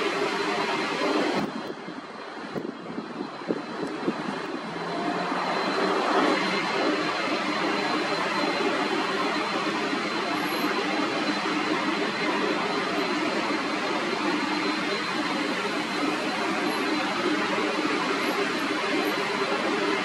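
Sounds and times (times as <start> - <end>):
high jet engine whine: 0.0 - 20.0
jet engines rushing: 0.0 - 20.0.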